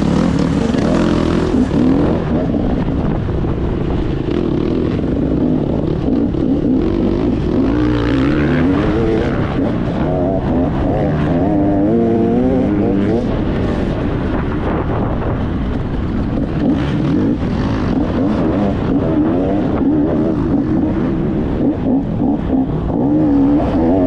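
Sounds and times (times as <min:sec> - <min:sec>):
motocross bike engine revving: 0:00.0 - 0:03.2, 0:04.0 - 0:13.9, 0:16.4 - 0:24.0.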